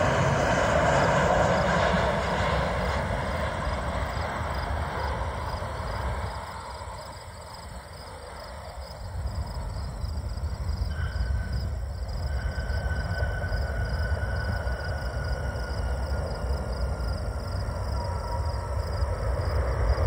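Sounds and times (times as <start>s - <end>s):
faint high whine: 0.0s - 20.0s
insects chirping: 0.0s - 20.0s
jet engine noise: 0.0s - 20.0s.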